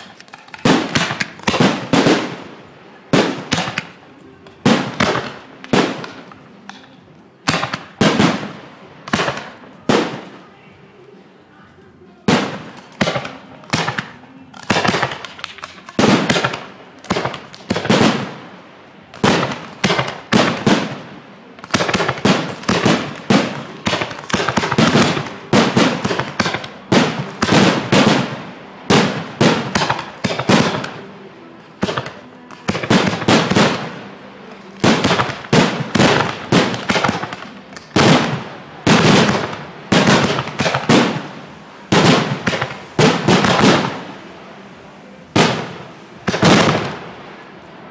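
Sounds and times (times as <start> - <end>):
fireworks shells bursting: 0.0 - 10.4, 12.3 - 18.5, 19.1 - 44.3.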